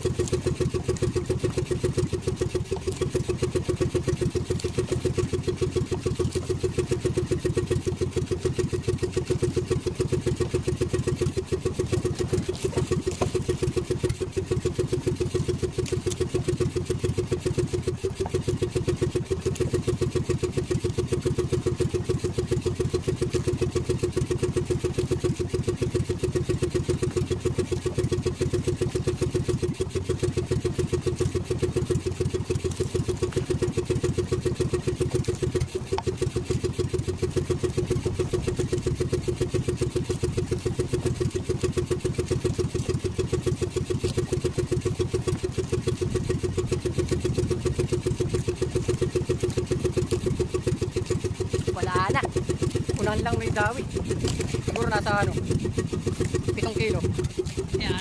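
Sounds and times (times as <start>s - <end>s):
boat engine idling: 0.0s - 58.0s.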